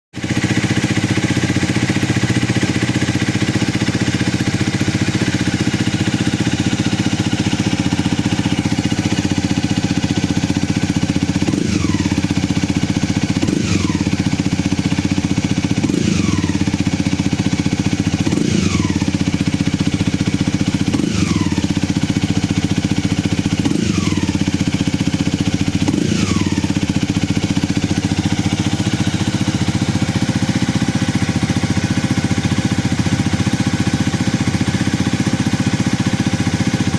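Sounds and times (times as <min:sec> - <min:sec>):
motorcycle engine idling: 0:00.1 - 0:36.9.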